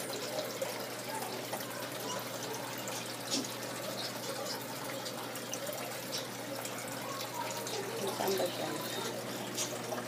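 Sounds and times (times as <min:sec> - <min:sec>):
aquarium water trickling: 0:00.0 - 0:10.0.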